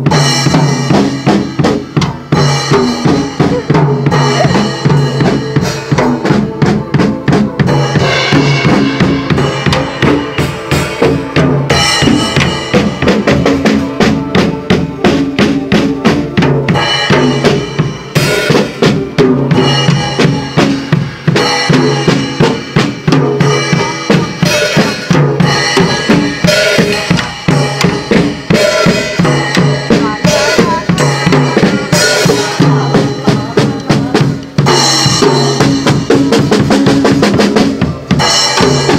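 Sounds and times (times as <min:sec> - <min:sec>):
cymbal crashes: 0:00.0 - 0:37.4
drum kit playing a groove: 0:00.0 - 0:38.9.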